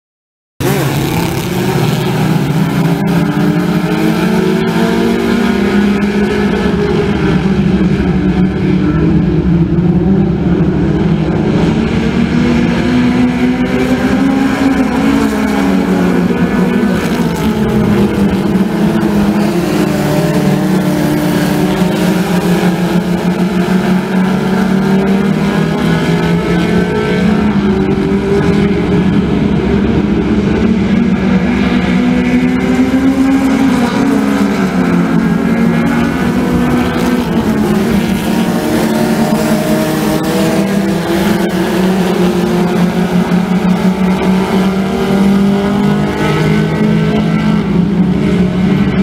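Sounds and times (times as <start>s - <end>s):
race car engines running hard: 0.6s - 49.0s.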